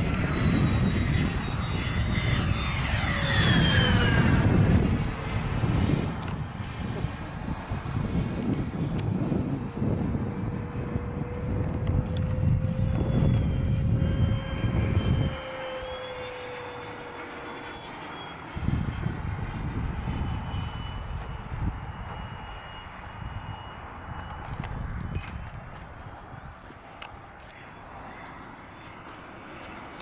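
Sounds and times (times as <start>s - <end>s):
model jet turbines whining: 0.0s - 30.0s.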